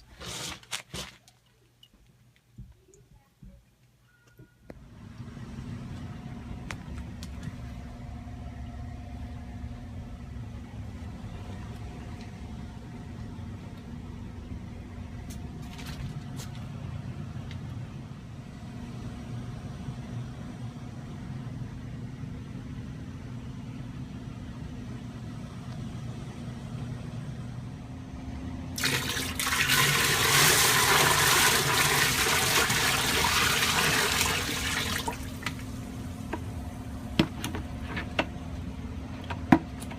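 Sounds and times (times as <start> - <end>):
steady low hum: 1.4 - 28.8, 33.0 - 39.9.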